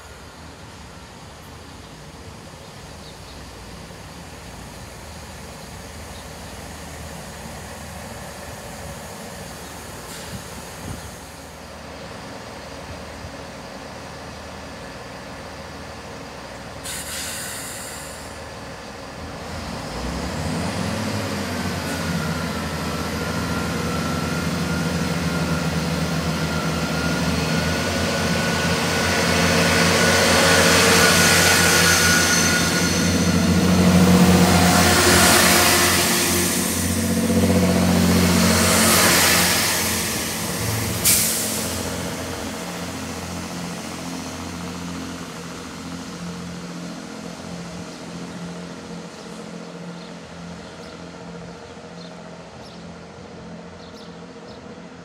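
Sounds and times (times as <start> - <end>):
diesel train engine: 0.0 - 55.0.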